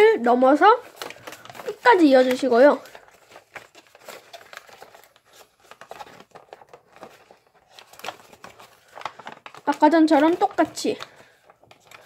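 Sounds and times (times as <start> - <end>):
paper rustling and crinkling: 0.2 - 12.0.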